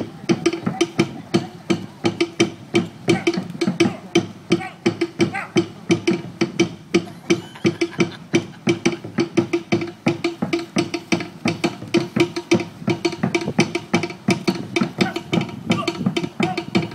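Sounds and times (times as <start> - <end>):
fast drumming: 0.0 - 16.9.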